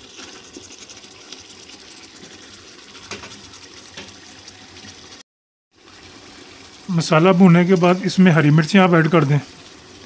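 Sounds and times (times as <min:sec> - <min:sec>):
chicken sizzling in a pot: 0:00.0 - 0:10.0.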